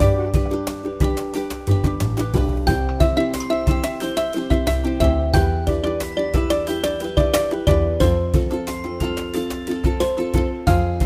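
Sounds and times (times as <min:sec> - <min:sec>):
upbeat ukulele song: 0:00.0 - 0:11.0.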